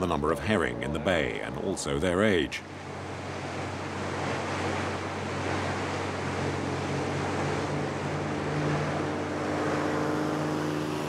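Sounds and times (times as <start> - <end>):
boat engines droning: 0.0 - 11.0
water rushing and splashing: 0.0 - 11.0.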